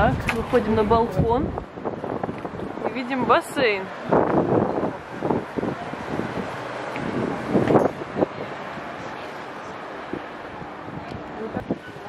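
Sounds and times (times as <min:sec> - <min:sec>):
traffic haze: 0:00.0 - 0:12.0
wind buffeting microphone: 0:00.0 - 0:12.0.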